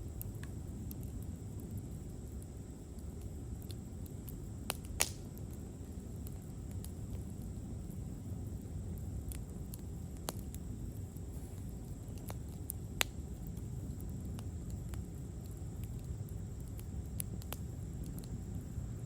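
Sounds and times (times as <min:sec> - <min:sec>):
campfire crackling and popping: 0:00.0 - 0:18.8
low steady rumble: 0:00.0 - 0:19.0.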